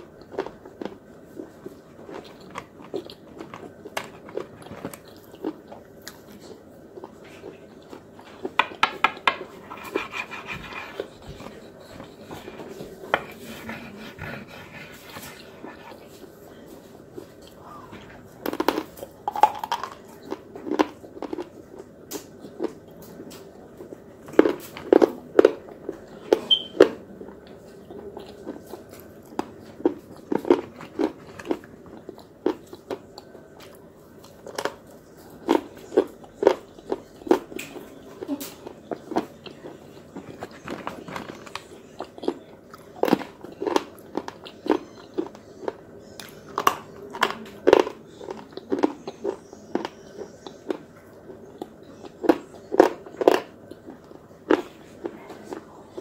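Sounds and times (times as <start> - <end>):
crunchy sticks being chewed: 0.0 - 56.0.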